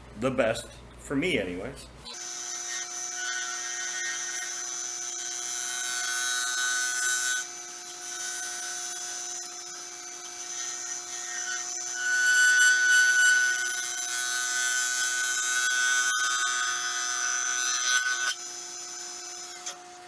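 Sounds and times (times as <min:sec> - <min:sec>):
gouge cutting spinning wood: 0:02.1 - 0:20.0
wood lathe humming: 0:02.1 - 0:20.0.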